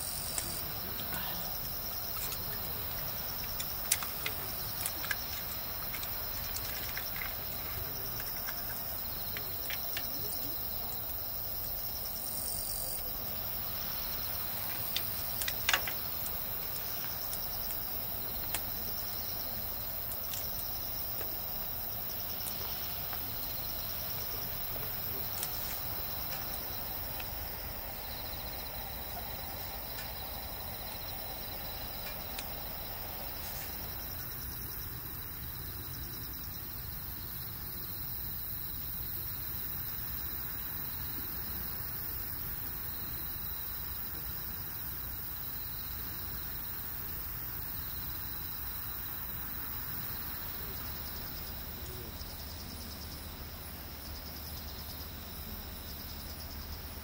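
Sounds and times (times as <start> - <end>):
crickets chirring: 0.0 - 57.0
low background hiss: 0.0 - 57.0.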